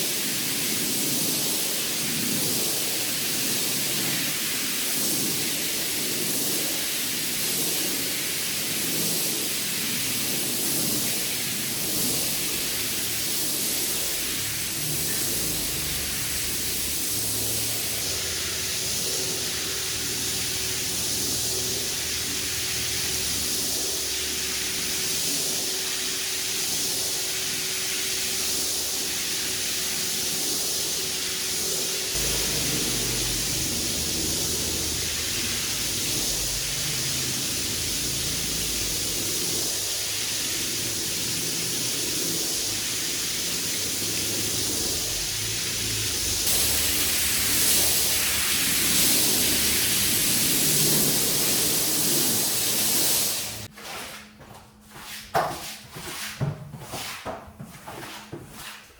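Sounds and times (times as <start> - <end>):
water jet spraying on carpet: 0.0 - 54.3.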